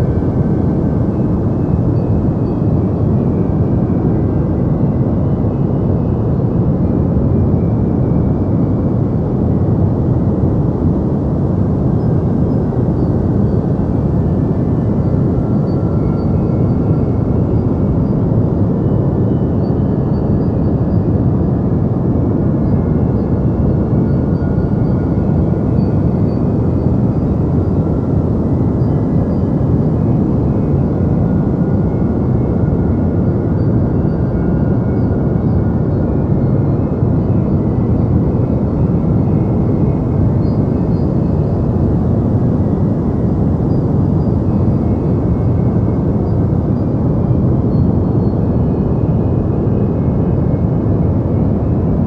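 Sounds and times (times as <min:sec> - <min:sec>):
deep rumbling white noise: 0:00.0 - 0:52.0.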